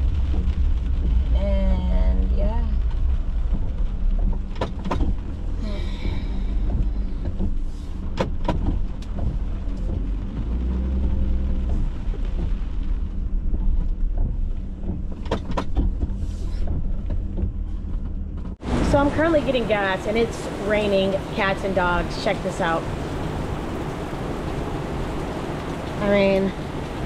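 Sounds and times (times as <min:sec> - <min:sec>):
heavy rain: 0:00.0 - 0:17.8, 0:18.5 - 0:27.0
car traffic: 0:00.0 - 0:27.0.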